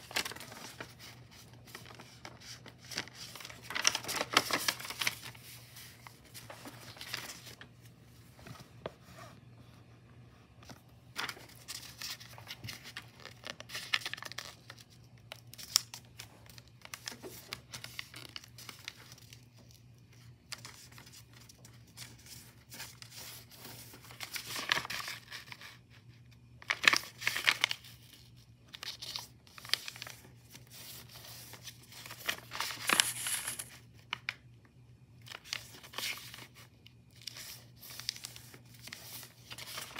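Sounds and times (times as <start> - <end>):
paper rustling and crinkling: 0.0 - 9.7, 10.5 - 34.4, 35.2 - 39.9.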